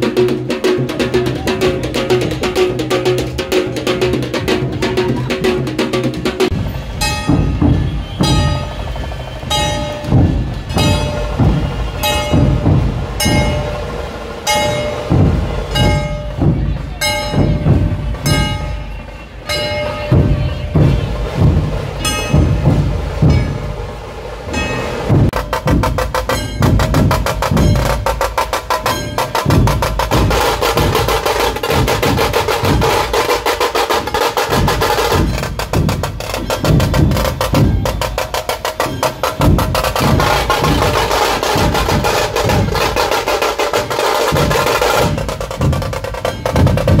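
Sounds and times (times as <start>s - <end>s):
drum troupe playing fast rhythm: 0.0s - 47.0s.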